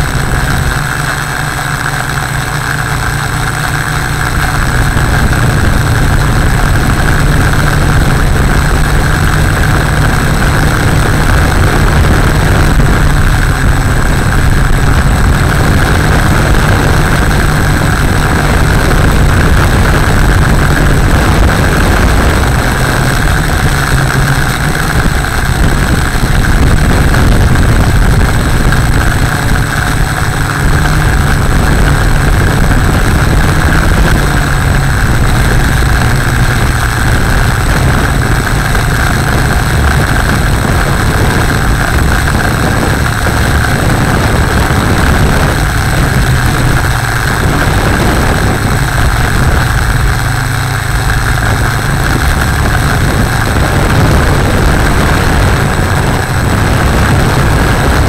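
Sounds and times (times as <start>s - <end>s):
drone motors and propellers: 0.0s - 58.0s.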